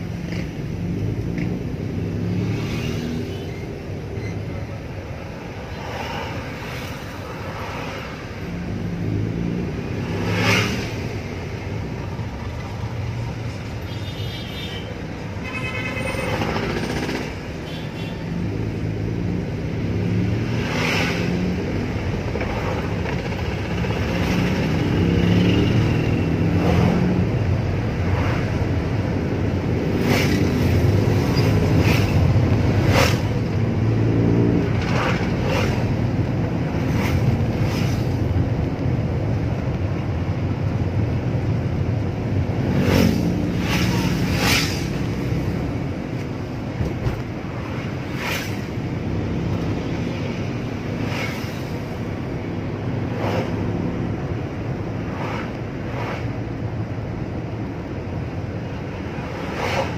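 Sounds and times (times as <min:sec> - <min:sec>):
road noise inside car: 0:00.0 - 0:59.9.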